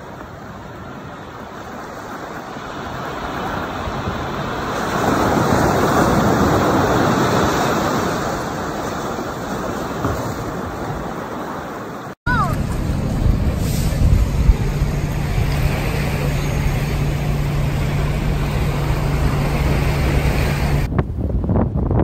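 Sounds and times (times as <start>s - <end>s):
surf washing onto beach: 0.0s - 20.9s.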